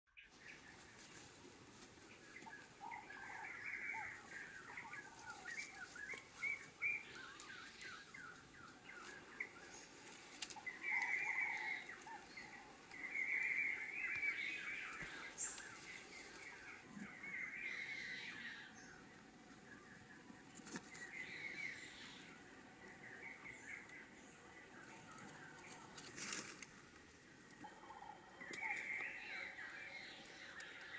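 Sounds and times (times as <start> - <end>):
birds chirping and calling: 0.3 - 30.9.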